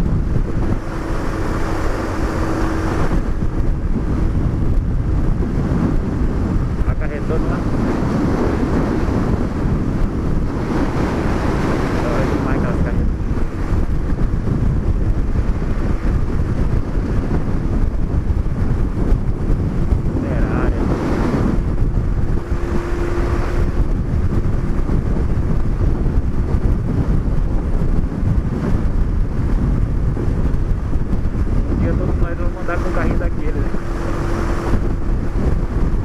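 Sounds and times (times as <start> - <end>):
motorcycle running: 0.0 - 36.0
wind buffeting microphone: 0.0 - 36.0.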